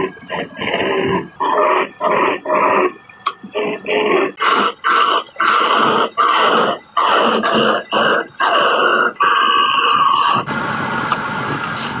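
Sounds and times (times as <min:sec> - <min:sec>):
turning tool cutting wood: 0:00.0 - 0:10.6
wood lathe spinning: 0:00.0 - 0:12.0.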